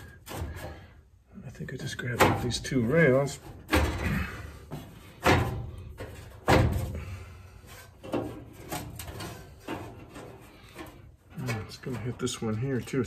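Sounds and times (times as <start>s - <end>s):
sheet-metal knocks and clunks: 0.0s - 1.0s, 1.6s - 12.9s.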